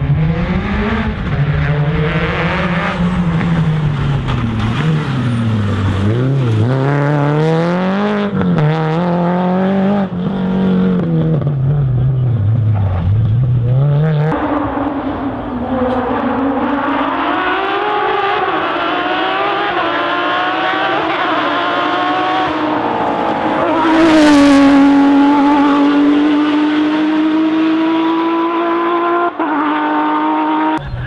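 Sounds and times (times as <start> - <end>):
rally car engine at high revs: 0.0 - 30.9.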